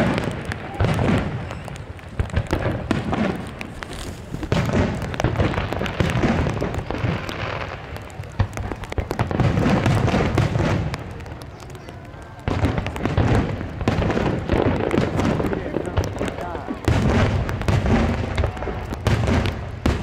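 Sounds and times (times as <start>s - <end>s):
firework cracks and crackles: 0.0s - 20.0s
firework shell-burst booms: 2.2s - 11.1s, 12.4s - 20.0s.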